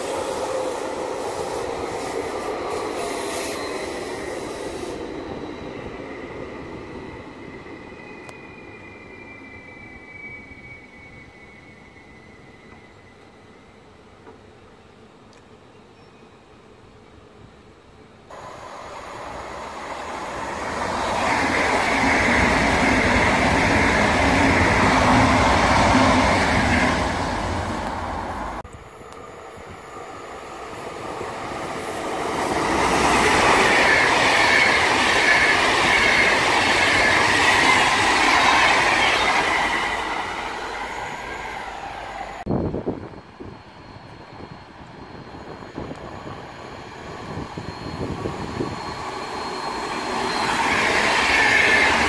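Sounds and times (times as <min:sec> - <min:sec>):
electric trains passing: 0:00.0 - 0:15.6, 0:16.4 - 0:52.0.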